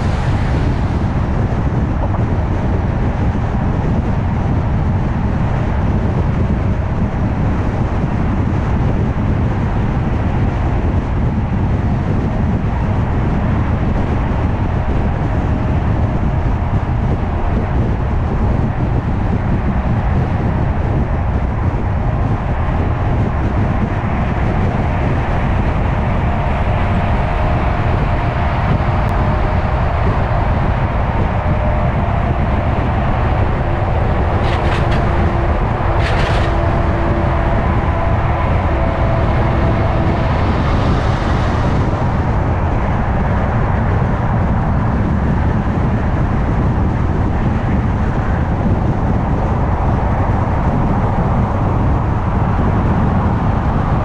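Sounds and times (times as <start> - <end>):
tyre and road rumble: 0.0 - 47.0.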